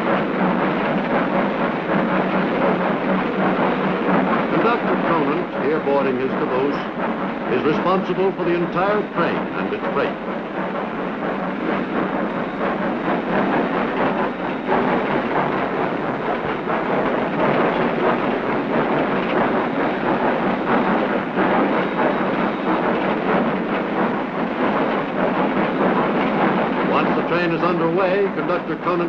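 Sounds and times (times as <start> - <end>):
steam locomotive rumbling: 0.0 - 29.0.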